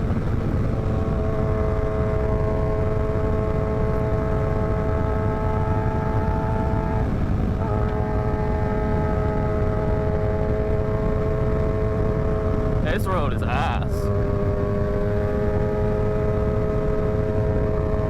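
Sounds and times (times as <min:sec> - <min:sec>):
motorcycle engine: 0:00.0 - 0:18.0
wind rush: 0:00.0 - 0:18.0.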